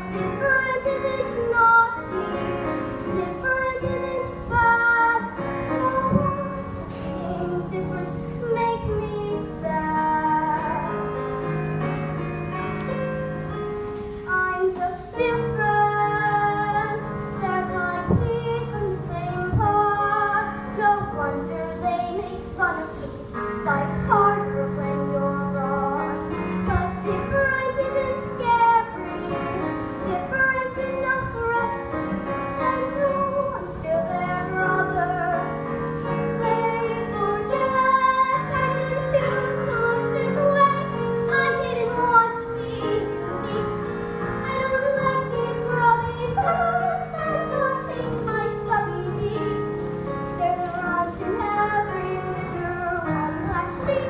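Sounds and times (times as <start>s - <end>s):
girl singing: 0.0s - 11.5s, 14.0s - 54.0s
held chord accompaniment: 0.0s - 54.0s.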